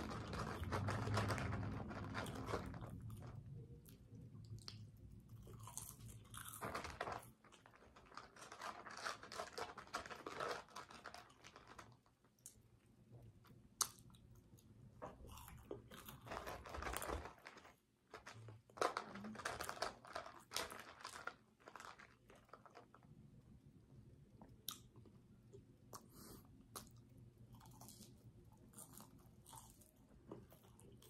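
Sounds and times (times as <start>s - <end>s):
person chewing and crunching food: 0.0s - 23.1s, 24.4s - 31.0s.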